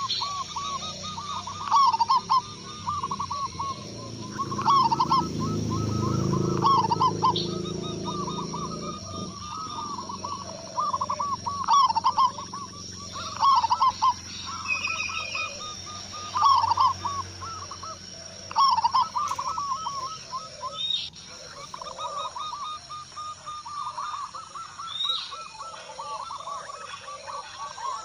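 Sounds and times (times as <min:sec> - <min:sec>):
doves cooing: 0:00.0 - 0:28.0
high chirp: 0:00.0 - 0:28.0.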